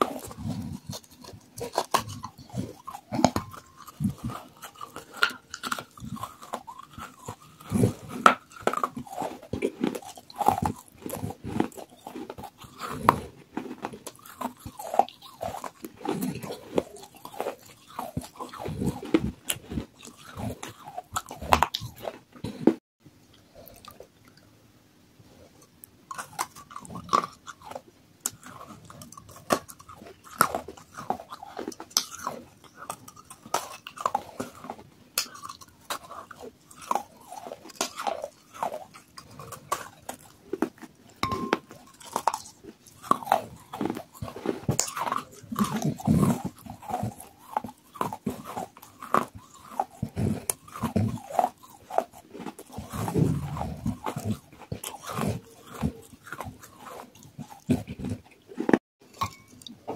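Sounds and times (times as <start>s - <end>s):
chewing and crunching: 0.0s - 24.5s, 25.2s - 59.9s
wet mouth sounds: 0.0s - 24.5s, 25.5s - 59.9s.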